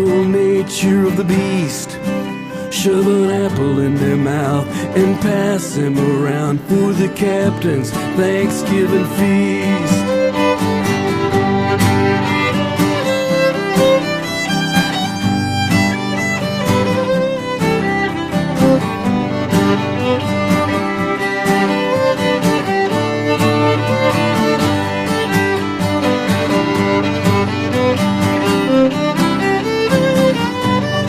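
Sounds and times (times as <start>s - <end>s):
acoustic guitars strumming: 0.0s - 31.0s
violin melody: 0.0s - 31.0s.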